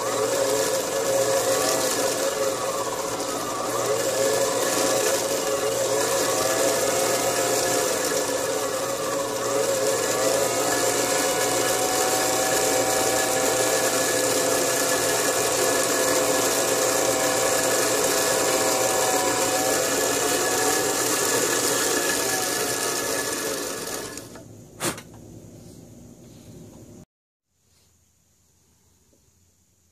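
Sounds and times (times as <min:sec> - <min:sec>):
lathe spindle motor running: 0:00.0 - 0:24.4.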